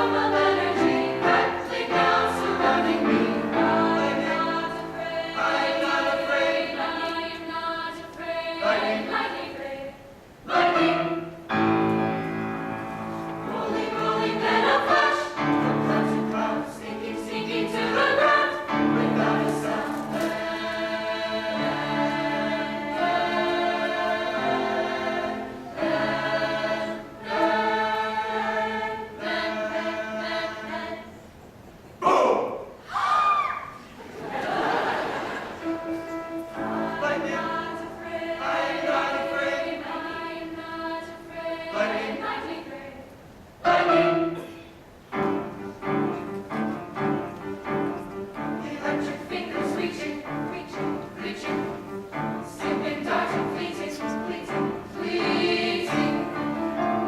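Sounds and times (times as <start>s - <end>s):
choir singing: 0.0s - 31.4s, 33.4s - 57.0s.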